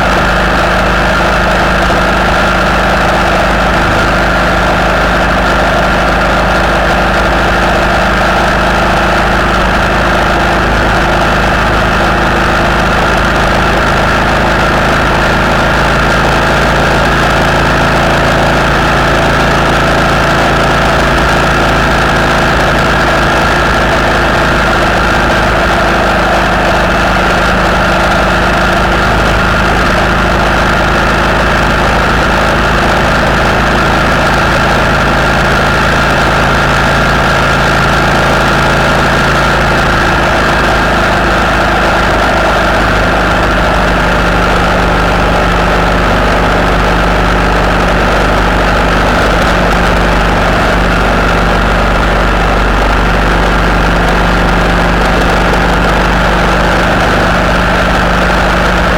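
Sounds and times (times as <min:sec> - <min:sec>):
road and wind noise: 0:00.0 - 0:58.9
vehicle engine drone: 0:00.0 - 0:58.9.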